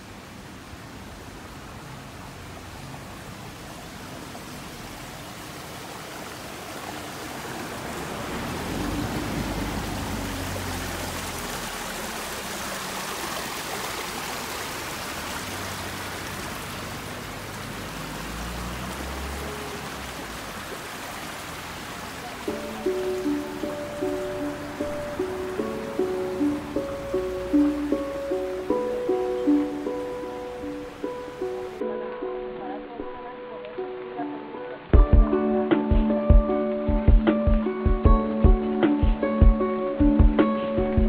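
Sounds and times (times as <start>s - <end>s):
stream splashing over rocks: 0.0s - 35.1s.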